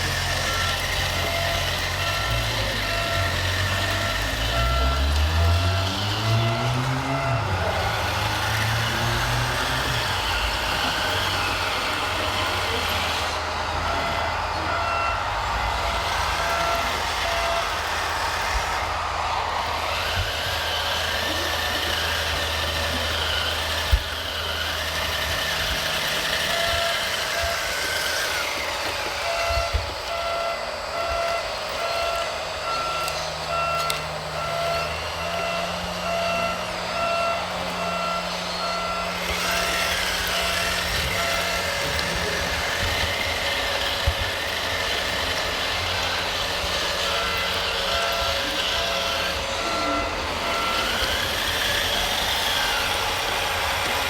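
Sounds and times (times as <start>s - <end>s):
reversing beeper: 0.0s - 54.0s
truck engine running: 0.0s - 54.0s.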